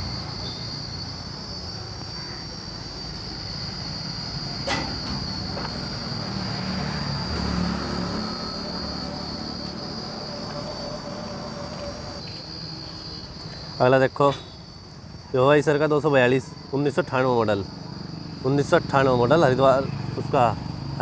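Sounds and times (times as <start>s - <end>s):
high-pitched insect drone: 0.0s - 21.0s
road traffic rumble: 0.0s - 21.0s.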